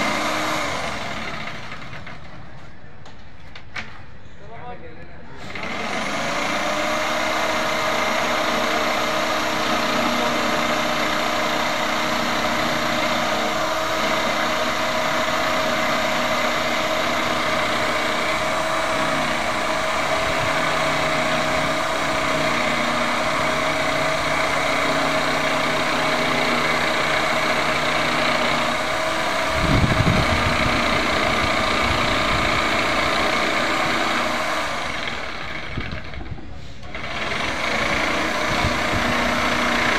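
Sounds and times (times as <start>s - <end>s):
electric jigsaw cutting plywood: 0.0s - 2.3s, 5.4s - 39.9s.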